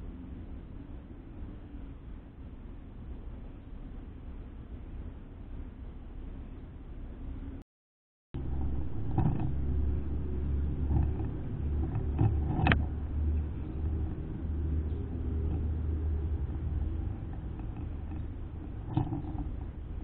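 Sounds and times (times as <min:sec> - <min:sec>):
low steady rumble: 0:00.0 - 0:07.6, 0:08.4 - 0:20.0.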